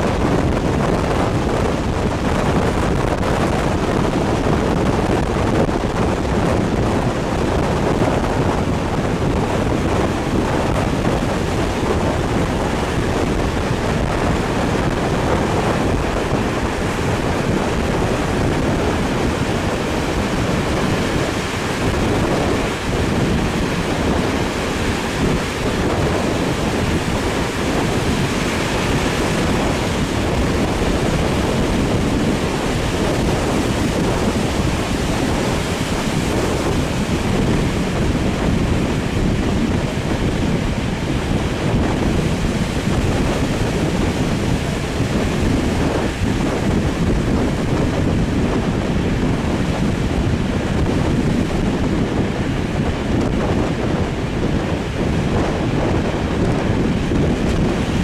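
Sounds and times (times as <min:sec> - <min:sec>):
train running noise: 0:00.0 - 0:58.0
wind rushing over microphone: 0:00.0 - 0:58.0.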